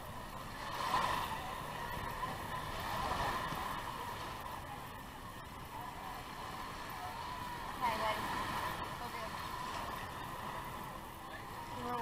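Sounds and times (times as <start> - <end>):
small surf washing onto sand: 0.3 - 12.0.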